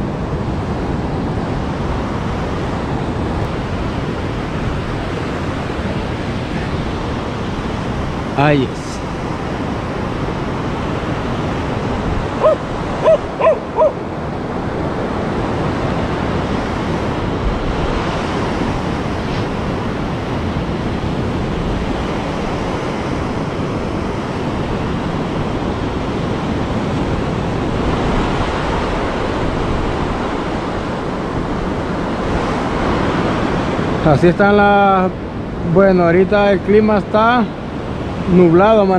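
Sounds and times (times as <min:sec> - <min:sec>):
wind on microphone: 0:00.0 - 0:36.0
ocean surf breaking on beach: 0:00.0 - 0:38.9.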